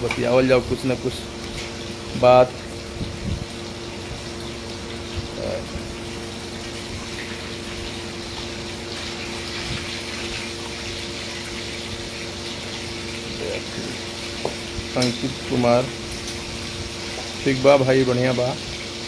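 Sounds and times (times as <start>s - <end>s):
low even hum: 0.0s - 19.0s.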